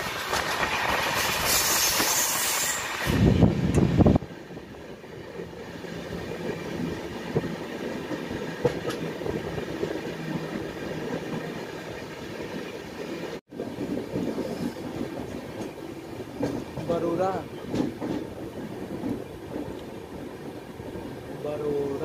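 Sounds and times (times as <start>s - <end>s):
train coaches rumbling on track: 0.0s - 22.0s.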